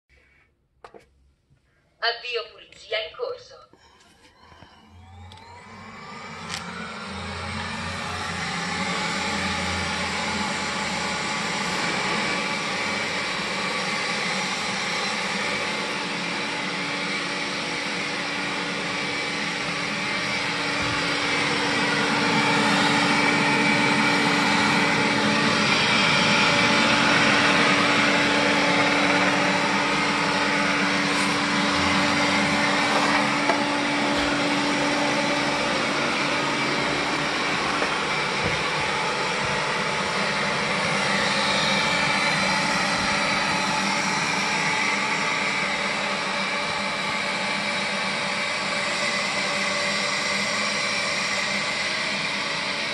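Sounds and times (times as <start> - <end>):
robot vacuum whirring: 3.8 - 52.9.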